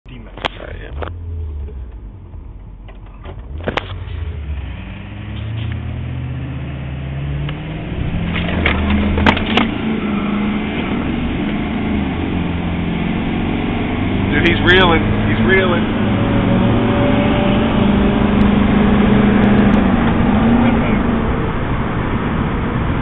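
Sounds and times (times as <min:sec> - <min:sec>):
road noise: 0:00.0 - 0:23.0
truck engine accelerating: 0:00.1 - 0:23.0.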